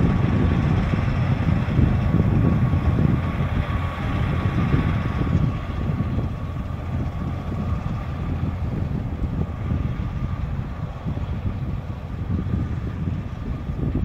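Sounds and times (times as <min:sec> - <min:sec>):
thin steady whine: 0:00.0 - 0:14.0
tractor engine under load: 0:00.0 - 0:14.0.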